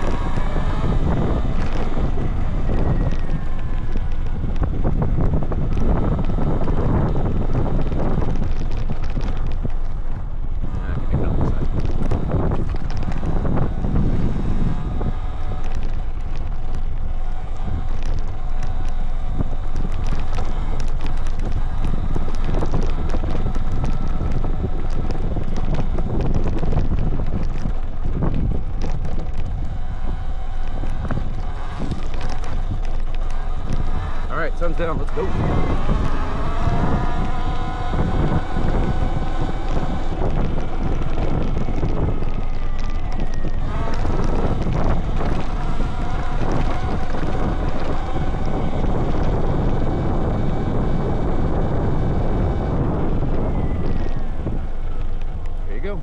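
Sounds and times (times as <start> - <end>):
bike clicks and knocks: 0.0 - 55.7
faint electric motor whine: 0.0 - 56.0
wind buffeting microphone: 0.0 - 56.0.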